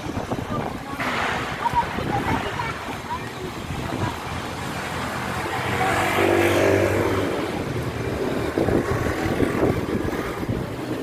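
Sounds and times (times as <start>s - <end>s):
vehicle engine hum: 0.0s - 11.0s
wind buffeting microphone: 0.0s - 11.0s.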